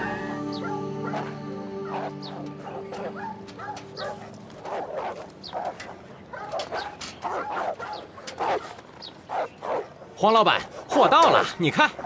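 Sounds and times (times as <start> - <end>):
dogs barking and yelping: 0.0 - 11.2.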